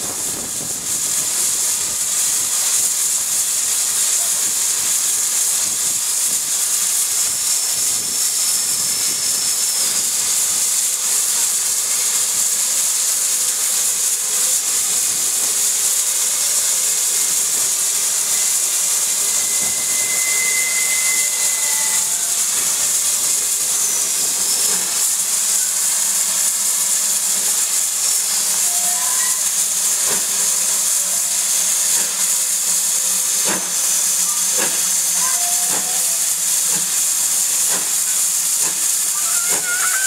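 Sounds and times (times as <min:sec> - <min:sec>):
steam locomotive safety valve hissing: 0:00.0 - 0:40.0.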